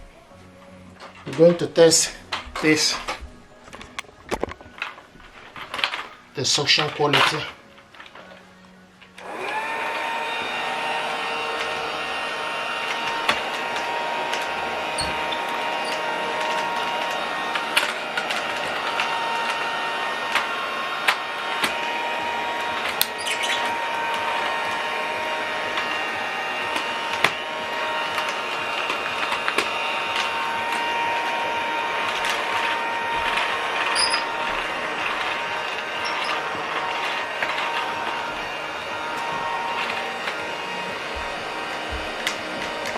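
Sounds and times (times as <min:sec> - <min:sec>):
toy vacuum cleaner motor whine: 0:00.0 - 0:42.9.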